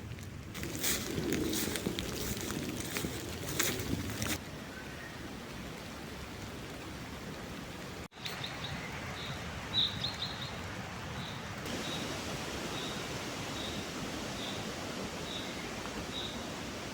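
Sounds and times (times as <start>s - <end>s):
forest rustling: 0.0s - 16.9s.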